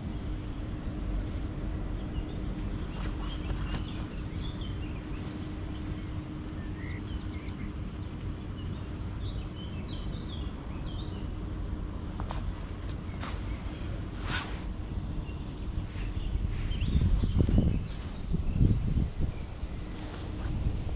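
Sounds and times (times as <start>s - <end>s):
faint even hum: 0.0s - 20.9s
small birds chirping: 0.0s - 20.9s
steady low rumble: 0.0s - 20.9s.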